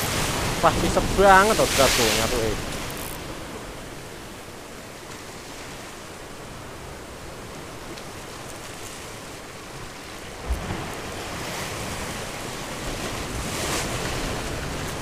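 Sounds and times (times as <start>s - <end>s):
surf washing on shore: 0.0s - 15.0s.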